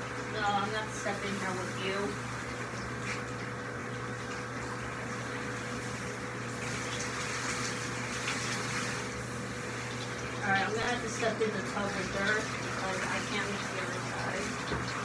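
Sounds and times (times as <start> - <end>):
steady hum: 0.0 - 15.0
water running from shower sprayer: 0.0 - 15.0.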